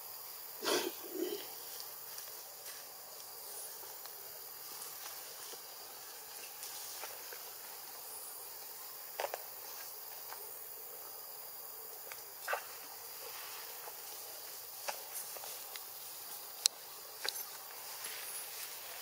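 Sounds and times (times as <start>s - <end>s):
high-pitched insect hiss: 0.0s - 19.0s.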